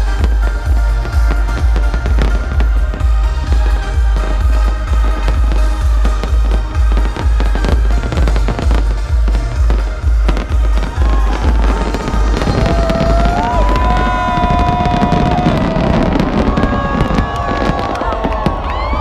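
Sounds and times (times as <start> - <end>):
electronic dance music: 0.0 - 16.4
fireworks bursting and crackling: 0.0 - 19.0.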